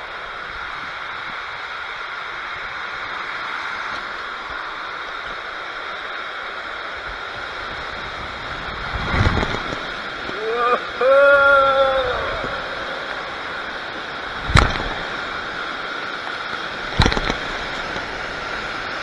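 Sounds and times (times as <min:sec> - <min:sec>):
rider sliding down water slide: 0:00.0 - 0:19.0
water rushing: 0:00.0 - 0:19.0.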